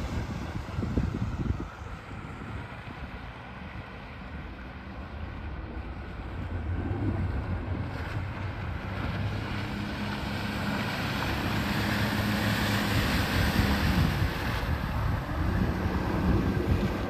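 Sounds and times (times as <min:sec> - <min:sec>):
wind on microphone: 0:00.0 - 0:04.2, 0:05.2 - 0:17.0
outboard motor running: 0:00.0 - 0:17.0.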